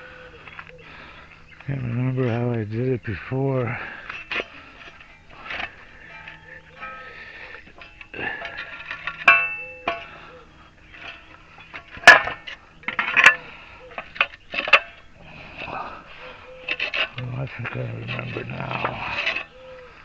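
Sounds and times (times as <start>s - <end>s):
metal tools clanking: 1.6s - 20.0s.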